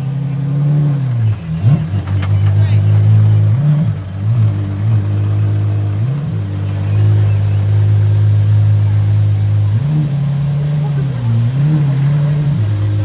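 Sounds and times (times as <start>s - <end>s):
car engine idling with throttle blips: 0.0s - 13.0s.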